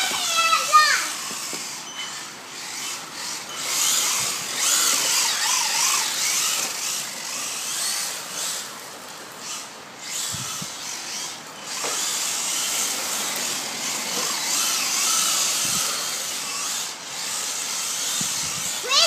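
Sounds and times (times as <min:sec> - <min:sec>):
rc car electric motors whining: 0:00.0 - 0:19.0.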